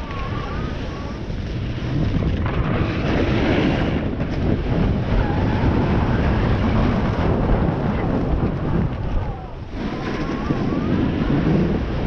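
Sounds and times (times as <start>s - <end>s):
snowboard scraping over snow: 0.0s - 12.0s
wind buffeting microphone: 0.0s - 12.0s.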